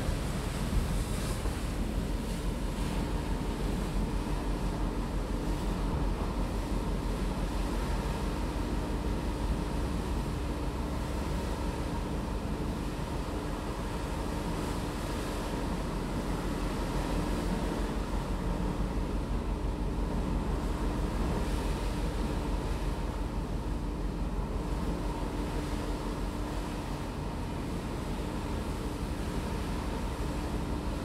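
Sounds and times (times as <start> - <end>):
ship engine hum: 0.0 - 31.0
wind against microphone: 0.0 - 31.0.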